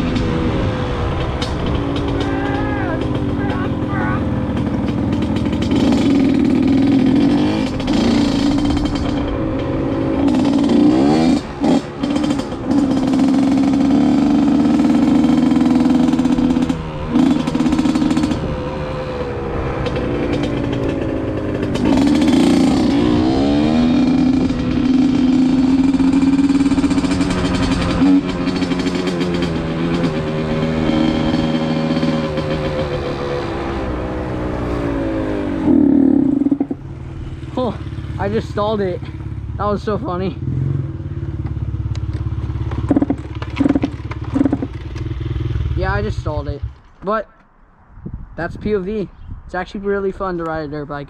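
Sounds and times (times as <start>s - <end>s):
motorcycle engine revving: 0.0s - 46.8s.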